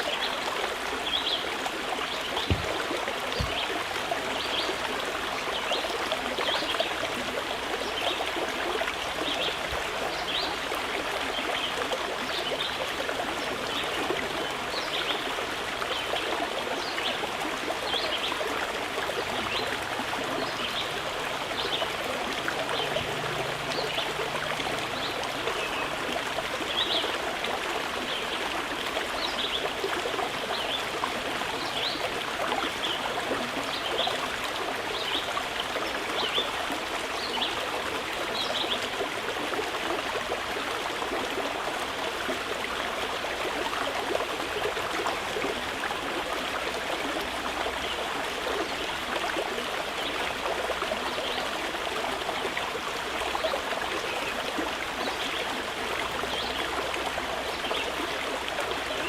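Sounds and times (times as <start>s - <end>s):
mountain river flowing: 0.0s - 59.0s.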